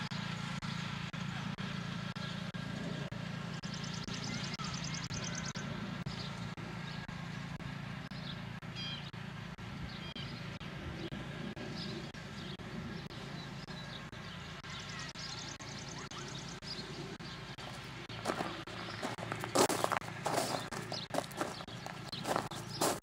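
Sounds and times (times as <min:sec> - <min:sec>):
riding lawnmower engine running: 0:00.0 - 0:23.0.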